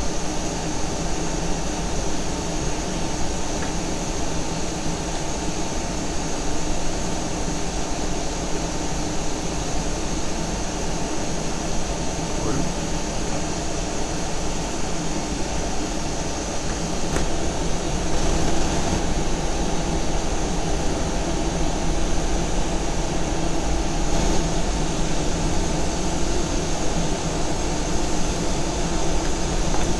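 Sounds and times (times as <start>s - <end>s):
machine hum and hiss: 0.0s - 29.9s.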